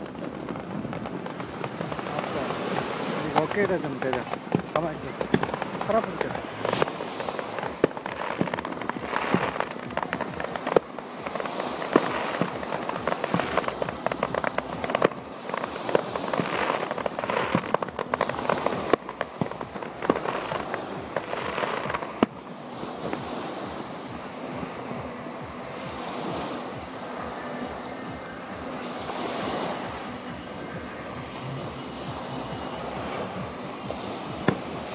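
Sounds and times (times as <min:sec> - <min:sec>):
fireworks bangs and crackles: 0:00.0 - 0:26.9, 0:32.1 - 0:34.9
small waves breaking: 0:00.0 - 0:34.9.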